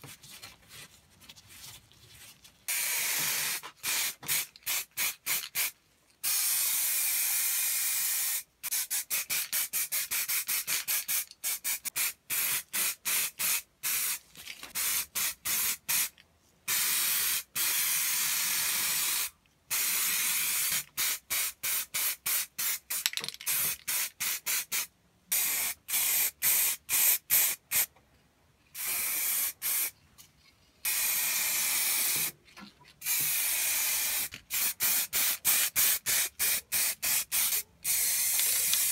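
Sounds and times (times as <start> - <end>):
spray paint can hissing: 2.7 - 14.2, 14.8 - 16.1, 16.7 - 27.9, 28.8 - 29.9, 30.8 - 32.3, 33.0 - 38.9.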